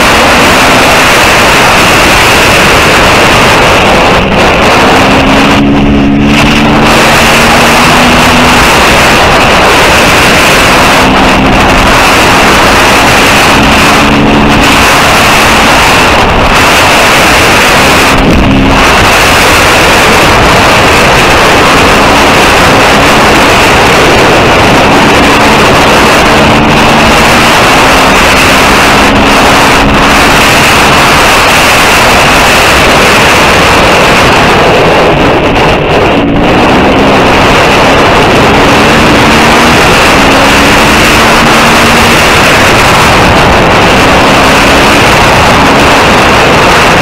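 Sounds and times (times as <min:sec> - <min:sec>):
motorcycle engine revving: 0:00.0 - 0:47.0
wind buffeting microphone: 0:00.0 - 0:47.0.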